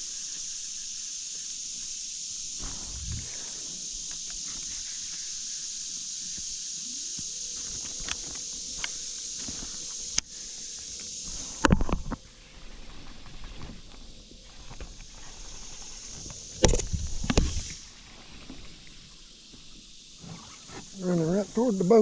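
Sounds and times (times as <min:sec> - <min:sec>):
creek hiss: 0:00.0 - 0:22.0.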